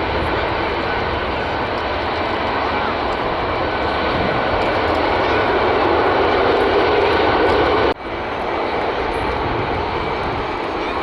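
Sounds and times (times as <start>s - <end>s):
jet airliner engines running: 0.0s - 11.0s.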